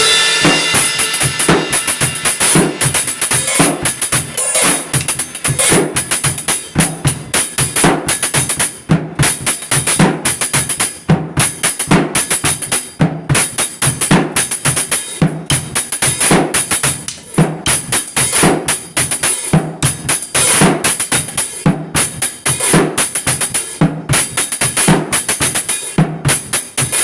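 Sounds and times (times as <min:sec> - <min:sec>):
fast drumming: 0:00.0 - 0:27.0.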